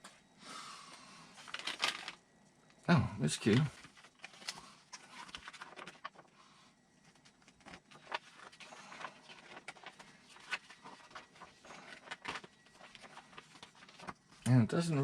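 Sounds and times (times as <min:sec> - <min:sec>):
faint rustling of packaging: 0:00.1 - 0:15.0.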